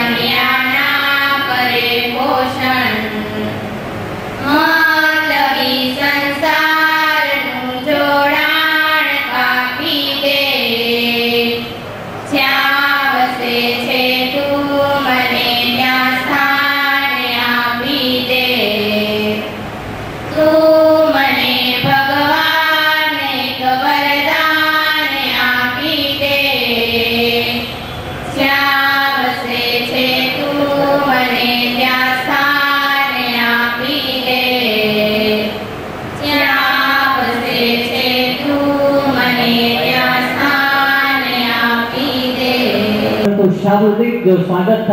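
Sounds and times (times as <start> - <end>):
girls singing together: 0.0 - 43.3.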